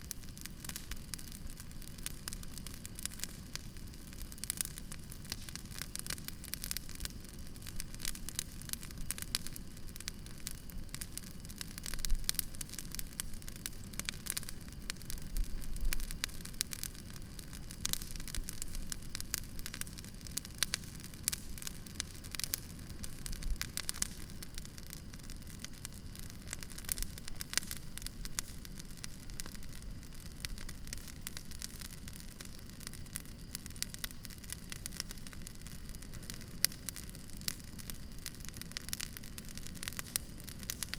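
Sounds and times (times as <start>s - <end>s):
wood campfire crackling: 0.0s - 40.9s.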